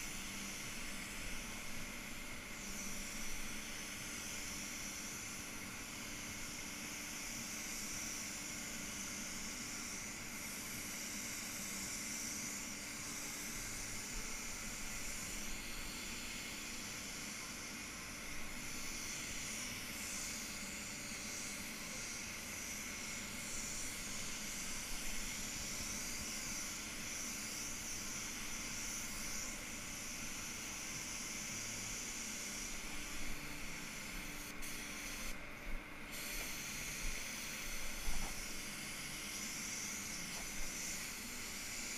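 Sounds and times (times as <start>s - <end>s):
paint spray gun hissing: 0.0s - 41.9s.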